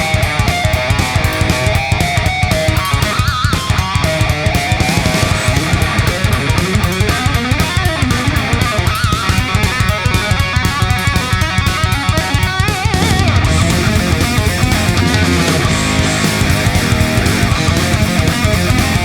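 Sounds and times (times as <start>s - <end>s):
electric guitar: 0.0s - 19.0s
fast steady drum beat: 0.0s - 19.0s.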